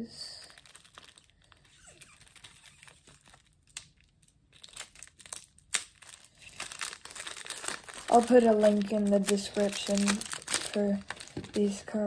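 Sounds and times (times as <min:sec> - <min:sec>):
cellophane wrapper crinkling: 0:00.2 - 0:12.0.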